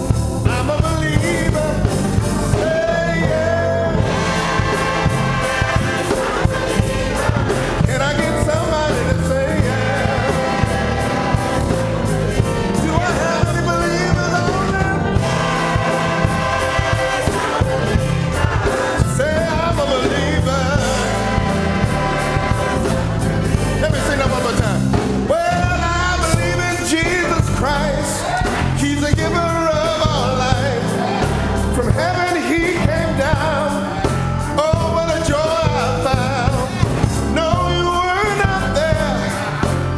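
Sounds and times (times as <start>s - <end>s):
bass: 0.0s - 39.9s
drum beat: 0.0s - 39.9s
choir singing: 1.2s - 39.9s.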